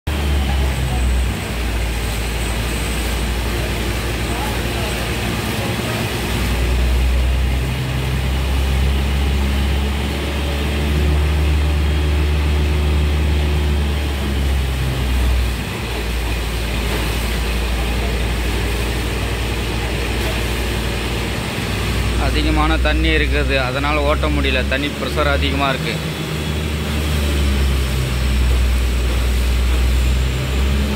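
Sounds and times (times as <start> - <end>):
drilling rig engine hum: 0.1 - 30.9
water gushing with a hiss: 0.1 - 30.9.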